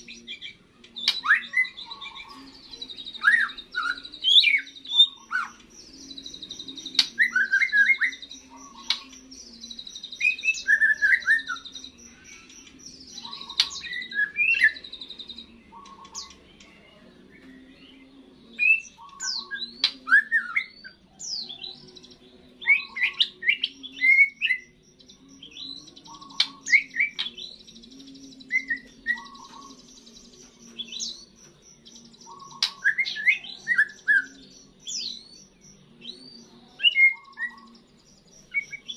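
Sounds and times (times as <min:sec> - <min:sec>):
bird whistling song: 0:00.0 - 0:38.9.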